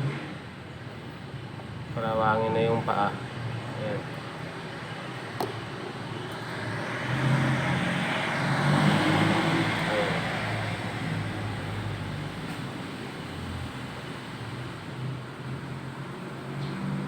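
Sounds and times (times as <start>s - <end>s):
vehicle passing by: 2.0s - 17.0s.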